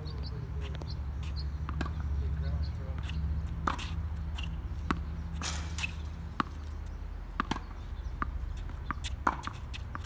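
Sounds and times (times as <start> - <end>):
tennis balls bouncing on hard court: 0.0 - 10.0
tennis balls struck by rackets: 0.0 - 10.0.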